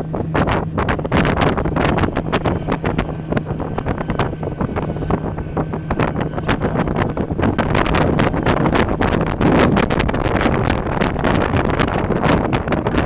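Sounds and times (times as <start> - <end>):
snowmobile engine drone: 0.0 - 13.0
wind buffeting microphone: 0.0 - 13.0.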